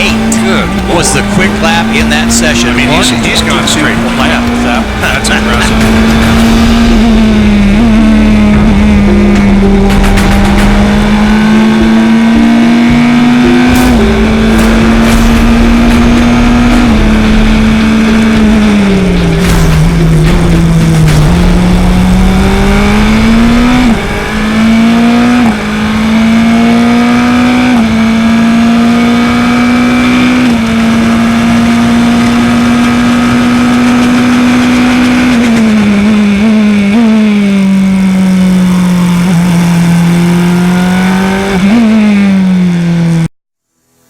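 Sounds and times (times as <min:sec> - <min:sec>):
race car engine accelerating: 0:00.0 - 0:44.0.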